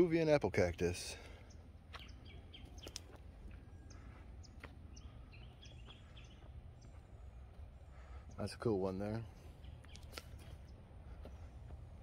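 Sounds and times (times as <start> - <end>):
faint bird chirps: 1.1 - 11.8.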